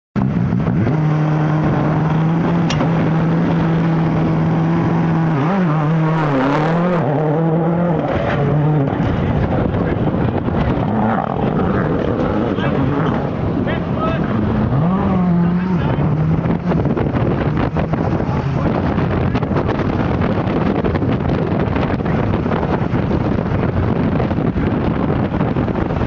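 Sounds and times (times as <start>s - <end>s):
rally car engine idling and revving: 0.2s - 26.0s.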